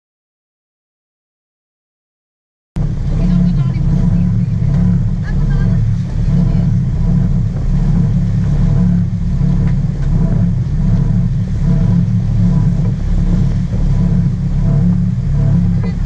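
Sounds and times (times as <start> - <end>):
boat engines droning: 2.8 - 16.0.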